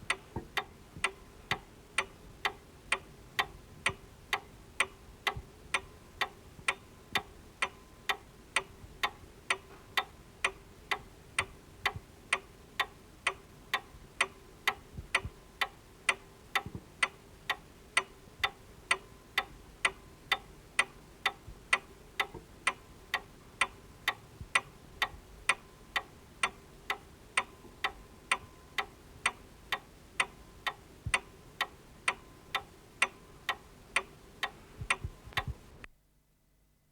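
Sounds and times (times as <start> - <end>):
faint steady hum: 0.0 - 36.9
clock ticking: 0.1 - 35.6.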